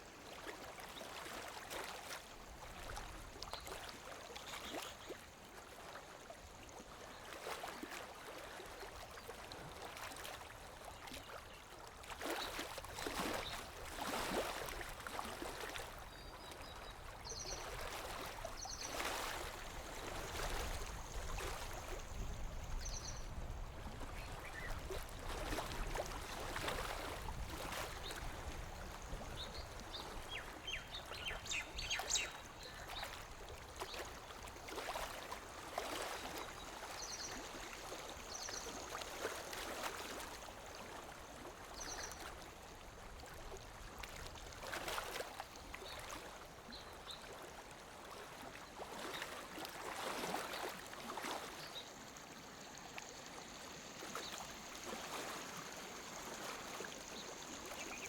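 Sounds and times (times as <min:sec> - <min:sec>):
water lapping at shore: 0:00.0 - 0:58.0.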